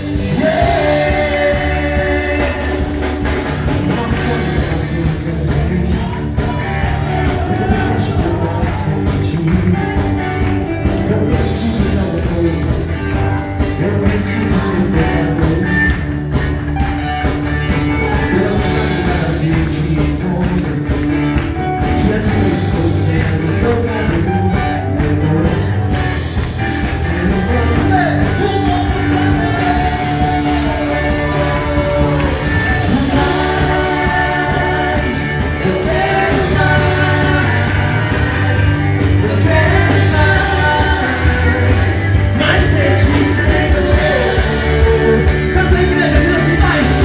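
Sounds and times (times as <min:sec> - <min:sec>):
person singing: 0:00.0 - 0:16.1, 0:18.0 - 0:21.0, 0:21.8 - 0:47.0
rock gospel band playing: 0:00.0 - 0:47.0
steady drum beat: 0:00.0 - 0:47.0.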